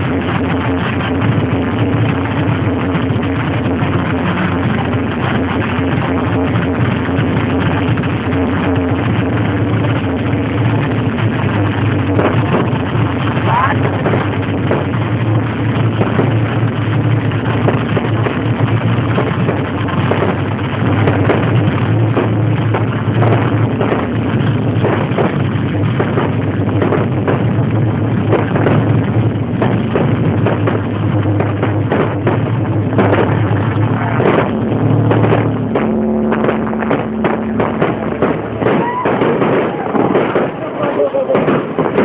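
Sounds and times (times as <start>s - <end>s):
fireworks fountains rushing roar: 0.0s - 42.0s.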